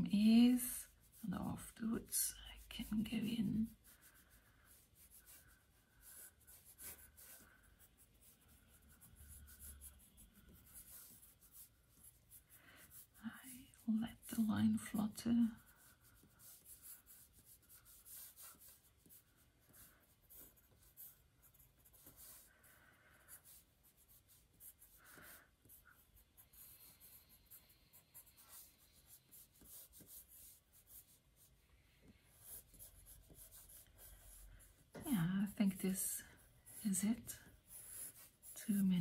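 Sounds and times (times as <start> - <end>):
drawing tip scratching paper: 0.5 - 31.5, 32.3 - 39.0.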